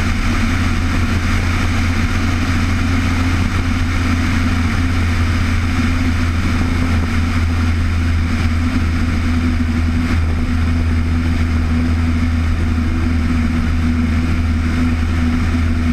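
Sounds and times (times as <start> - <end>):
steady engine drone: 0.0 - 15.9.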